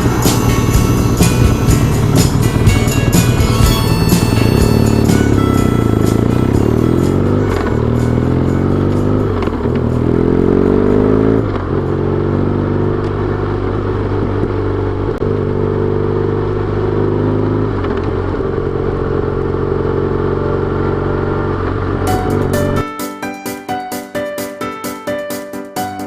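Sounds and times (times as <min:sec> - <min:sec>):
motorcycle engine accelerating: 0:00.0 - 0:22.8.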